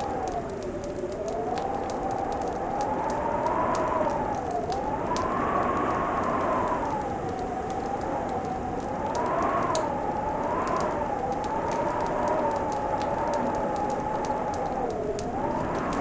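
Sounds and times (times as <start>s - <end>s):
fireplace crackling and popping: 0.0s - 16.0s.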